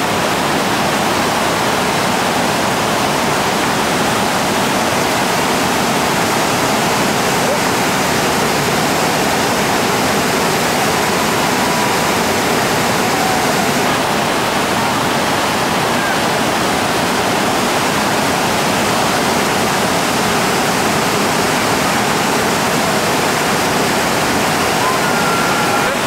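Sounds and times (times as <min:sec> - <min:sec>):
whitewater rapid roaring: 0:00.0 - 0:26.0.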